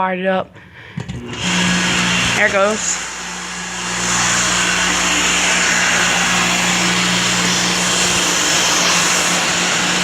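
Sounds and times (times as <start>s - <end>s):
fan air rushing: 0.6s - 10.0s
electric motor hum: 1.0s - 10.0s.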